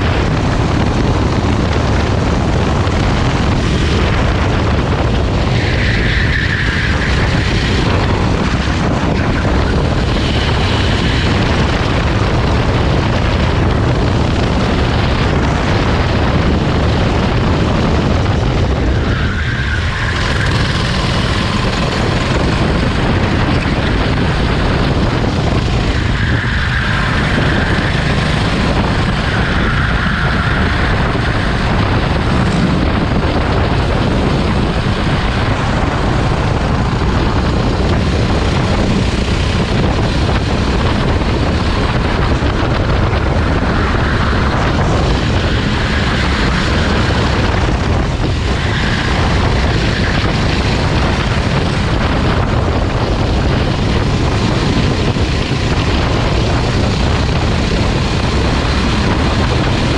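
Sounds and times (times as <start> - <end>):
go-kart engine drone: 0.0 - 59.9.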